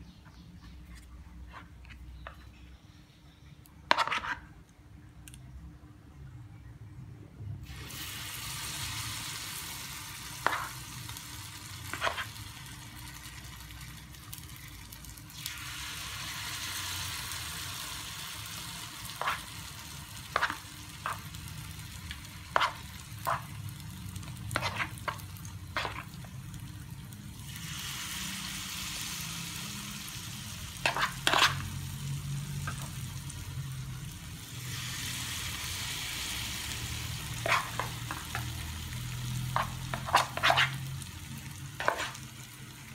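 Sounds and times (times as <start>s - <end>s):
food sizzling in oil: 7.7s - 42.9s.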